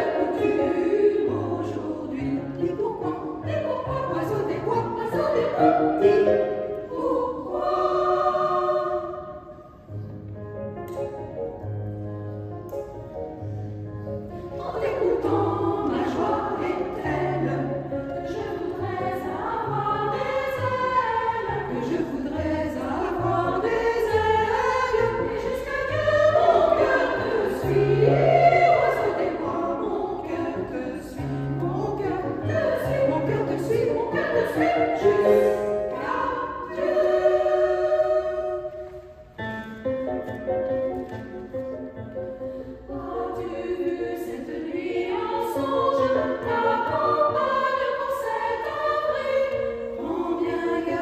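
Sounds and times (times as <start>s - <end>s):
women's choir singing: 0.0s - 9.9s, 14.3s - 39.2s, 42.3s - 51.0s.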